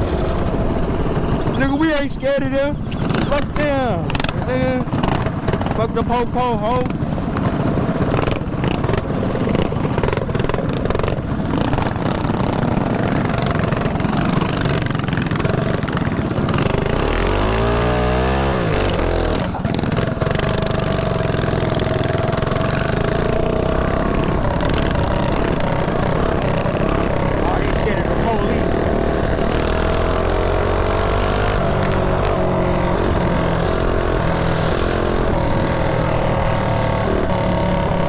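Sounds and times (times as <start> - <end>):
mini bike engines running: 0.0 - 38.0.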